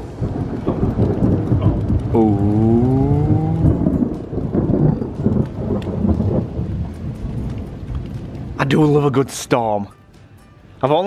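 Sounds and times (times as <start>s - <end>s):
thunder rumbling: 0.0s - 9.5s
heavy rain: 0.0s - 11.0s.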